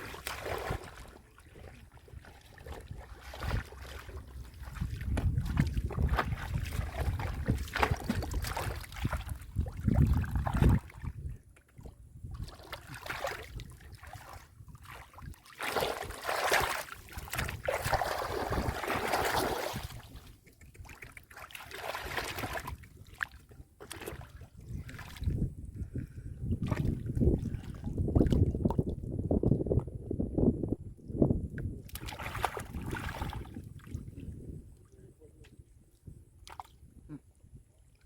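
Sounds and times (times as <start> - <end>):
wind rumbling on microphone: 0.0 - 21.2, 22.0 - 38.0
water sloshing and splashing: 0.0 - 29.8, 31.8 - 34.9, 36.0 - 36.9.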